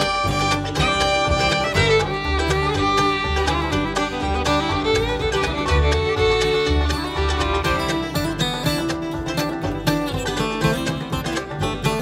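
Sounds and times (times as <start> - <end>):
bluegrass band playing: 0.0 - 12.0
fiddle leading: 0.0 - 12.0.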